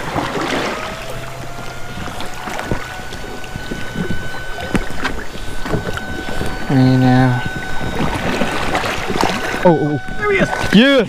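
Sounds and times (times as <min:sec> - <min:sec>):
faint steady tone: 0:00.0 - 0:11.0
water lapping around raft: 0:00.0 - 0:11.0.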